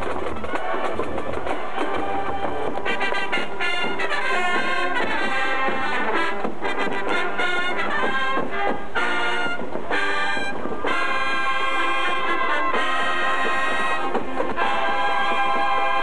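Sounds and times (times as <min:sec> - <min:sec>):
brass marching band playing: 0:00.0 - 0:16.0.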